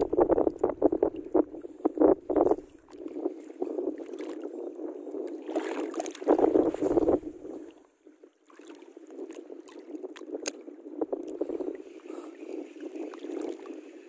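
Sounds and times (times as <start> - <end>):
water lapping and sloshing: 0.0 - 14.0.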